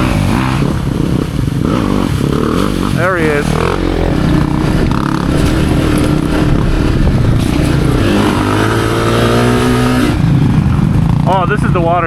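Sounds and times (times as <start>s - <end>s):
riding noise: 0.0s - 11.3s
dirt bike engine revving: 0.0s - 11.4s.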